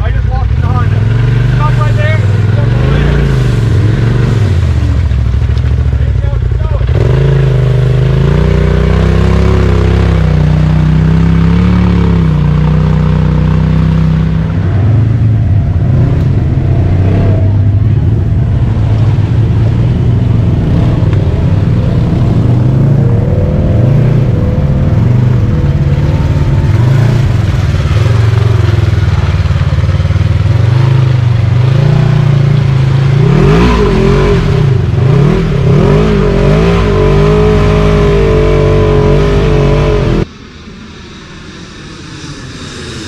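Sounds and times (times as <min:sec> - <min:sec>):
atv engine revving: 0:00.0 - 0:40.3.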